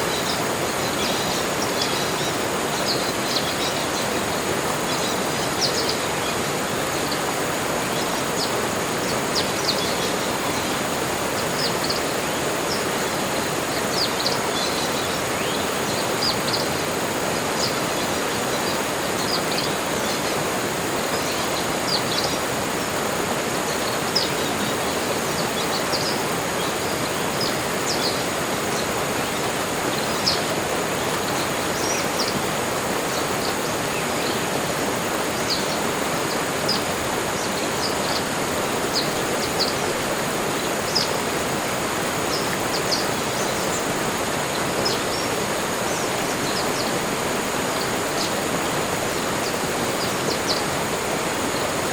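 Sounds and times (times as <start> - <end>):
steady rushing hiss: 0.0 - 51.9.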